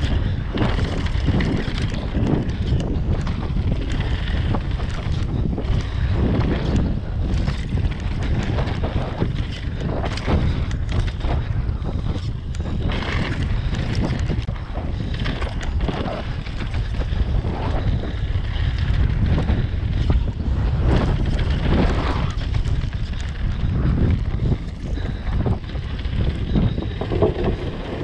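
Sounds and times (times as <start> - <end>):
bike knocks and rattles: 0.0 - 28.0
wind buffeting microphone: 0.0 - 28.0.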